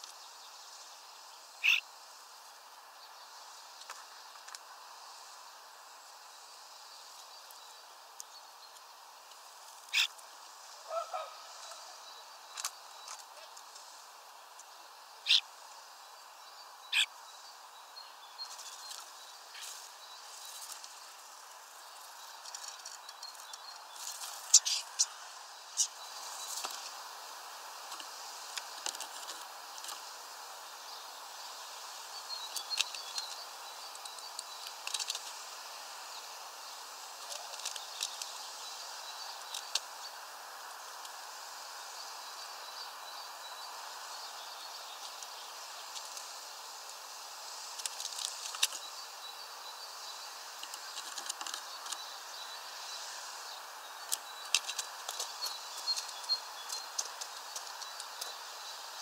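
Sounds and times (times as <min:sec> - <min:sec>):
outdoor background hiss: 0:00.0 - 0:59.0
small birds chirping: 0:00.0 - 0:59.0.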